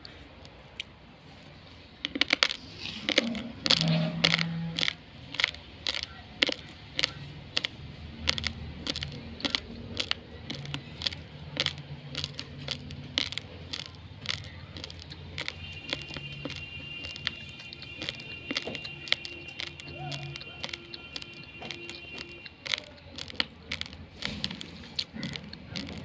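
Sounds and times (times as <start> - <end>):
rice grains crunched by teeth: 2.0 - 26.0.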